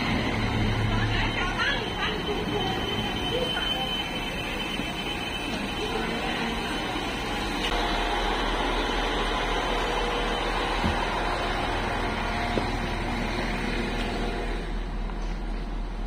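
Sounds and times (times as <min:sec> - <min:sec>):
electric train equipment hum: 0:00.0 - 0:16.0.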